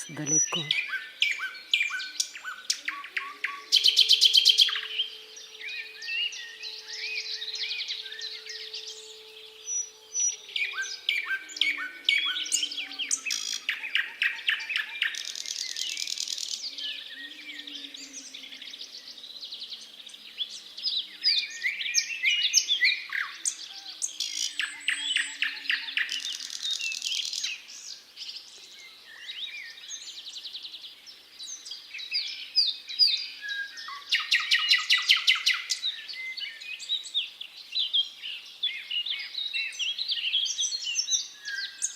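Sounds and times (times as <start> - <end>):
nightingale singing: 0.0 - 41.9.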